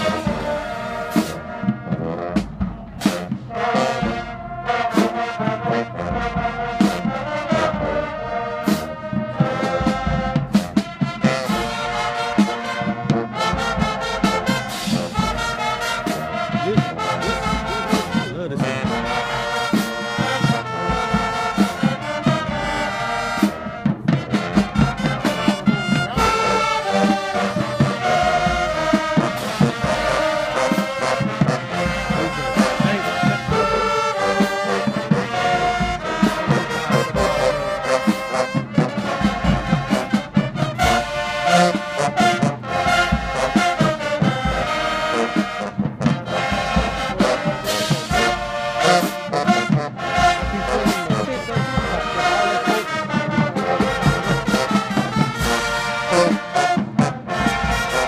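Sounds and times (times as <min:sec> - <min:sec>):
drum strokes: 0:00.0 - 0:58.0
marching band brass tune: 0:00.0 - 0:58.0.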